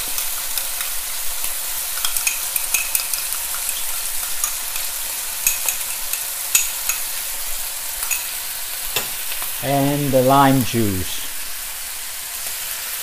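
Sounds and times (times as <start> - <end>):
meat sizzling in hot oil: 0.0 - 9.6, 11.4 - 13.0.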